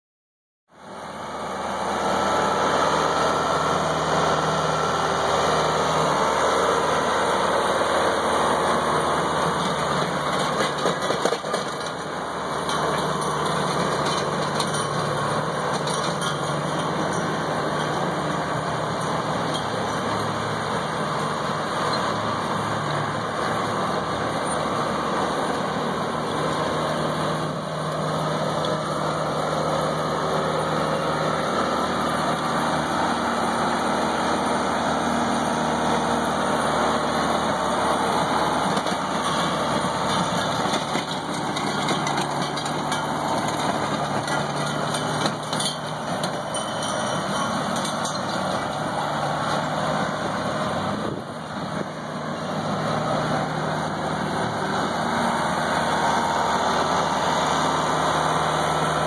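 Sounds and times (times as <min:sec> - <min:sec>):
tractor engine running under load: 0:00.7 - 0:59.0.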